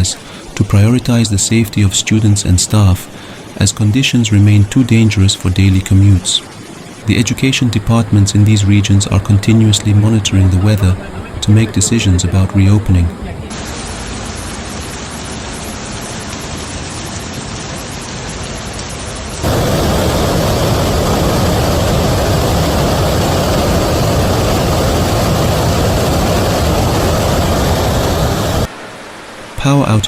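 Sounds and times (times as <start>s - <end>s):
heavy rain hissing: 0.0s - 30.0s
rushing rain and water: 0.0s - 30.0s.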